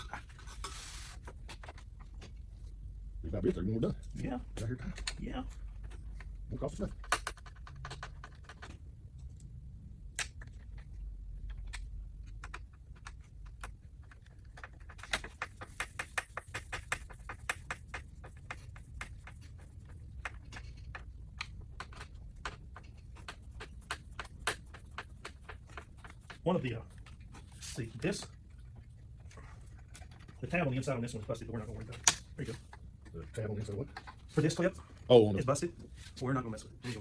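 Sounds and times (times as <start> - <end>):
steady low hum: 0.0 - 37.0
clicks and scrapes on plastic: 3.4 - 9.5, 10.2 - 35.0.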